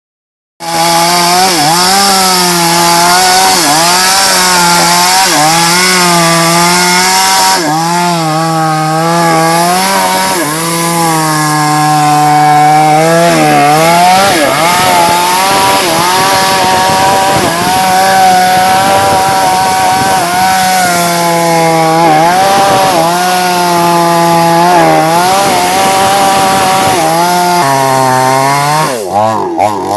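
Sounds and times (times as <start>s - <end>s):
chainsaw cutting log: 0.6s - 29.9s.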